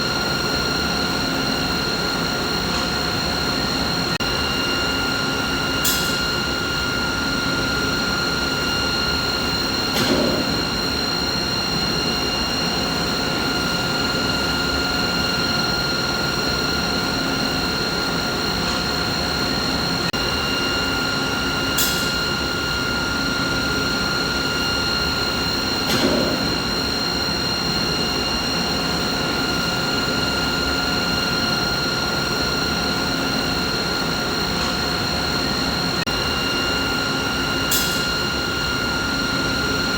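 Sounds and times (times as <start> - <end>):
machinery rushing hum: 0.0 - 39.9.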